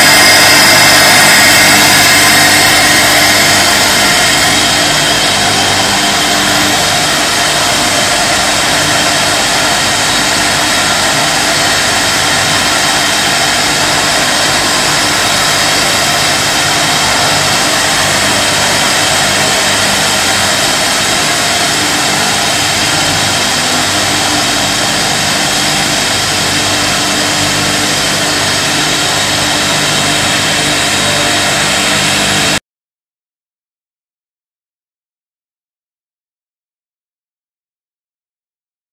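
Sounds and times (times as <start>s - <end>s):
constant machine hum: 0.0s - 32.6s
production line machinery: 0.0s - 32.6s.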